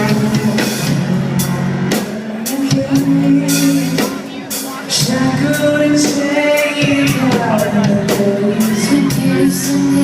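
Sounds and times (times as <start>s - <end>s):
rock band playing: 0.0s - 10.0s.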